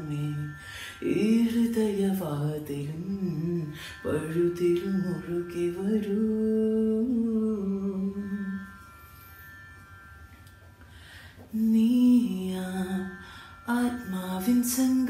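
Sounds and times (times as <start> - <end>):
young man singing: 0.0 - 8.6, 11.5 - 15.0.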